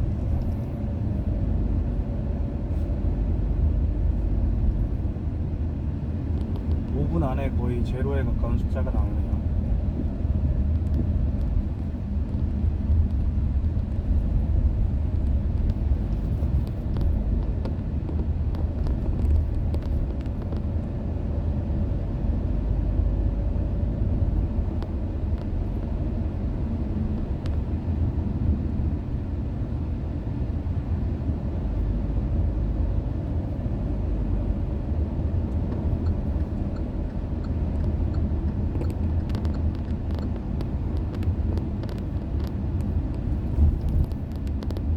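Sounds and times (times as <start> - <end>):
car driving interior rumble: 0.0 - 44.9.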